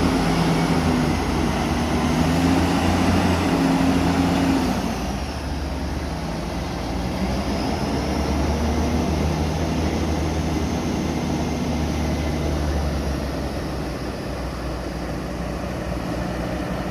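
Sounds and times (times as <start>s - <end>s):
heavy diesel engines droning: 0.0s - 16.9s.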